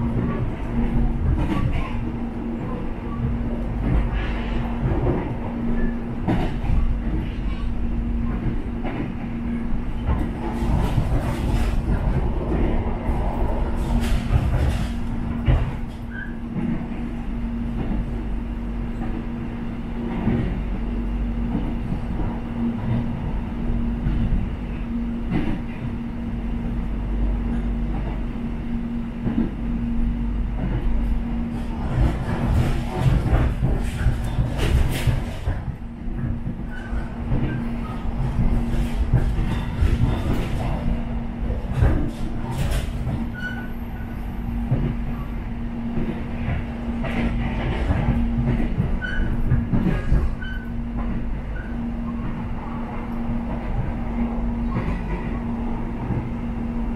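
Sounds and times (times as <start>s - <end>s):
constant hum: 0.0s - 56.9s
train rumbling on rails: 0.0s - 56.9s.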